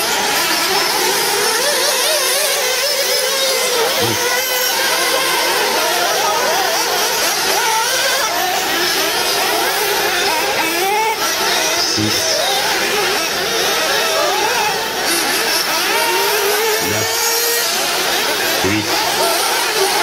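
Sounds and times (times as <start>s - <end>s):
rc buggy engines buzzing: 0.0s - 20.0s.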